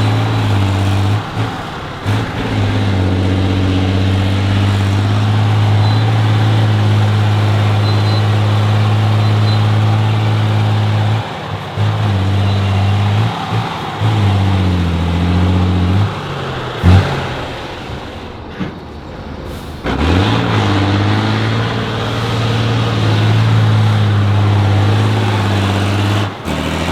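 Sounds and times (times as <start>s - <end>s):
truck engine running hard: 0.0s - 26.9s.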